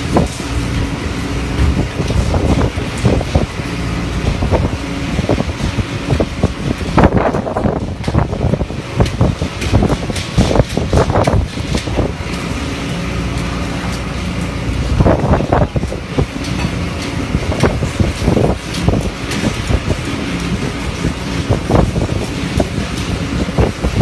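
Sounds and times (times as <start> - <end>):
wind on microphone: 0.0 - 12.6, 14.5 - 24.0
boat engine running: 0.0 - 24.0.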